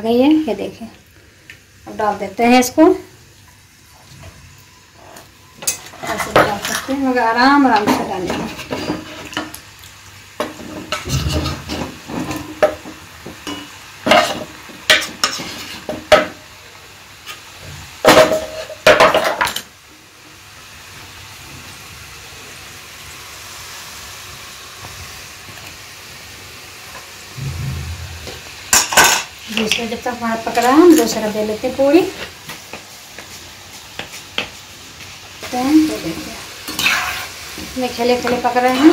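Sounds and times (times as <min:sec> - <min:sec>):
dough sizzling in hot oil: 0:00.0 - 0:38.9.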